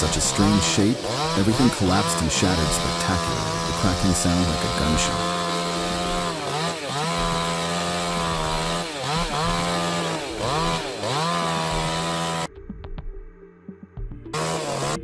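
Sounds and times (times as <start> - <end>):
chainsaw cutting at high revs: 0.0 - 12.5, 14.3 - 15.0.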